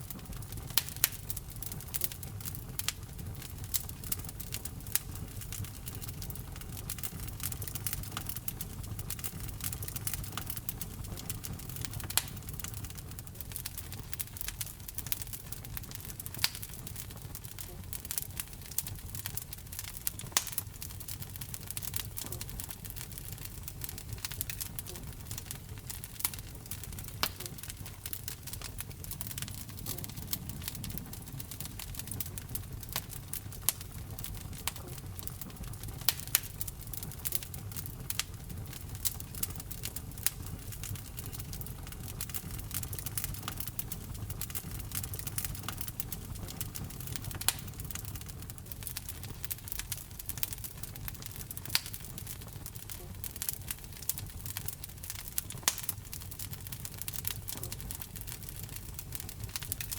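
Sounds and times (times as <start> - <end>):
fire crackling: 0.0 - 59.9
flames rumbling: 0.0 - 59.9
wood fire popping: 0.0 - 59.9.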